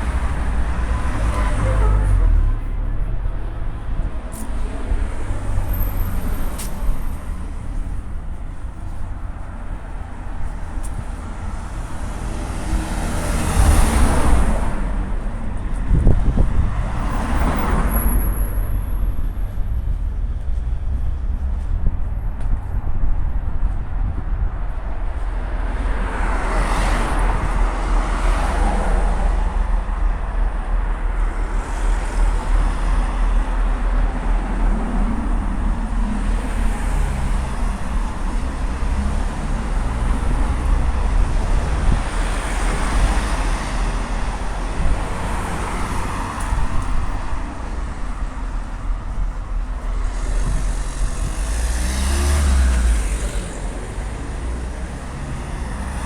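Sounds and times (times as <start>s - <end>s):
low traffic rumble: 0.0s - 56.0s
vehicles passing: 0.0s - 56.0s.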